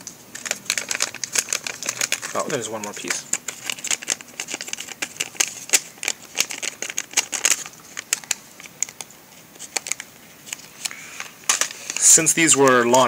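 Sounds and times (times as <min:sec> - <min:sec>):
crinkling plastic packets handled: 0:00.0 - 0:13.0.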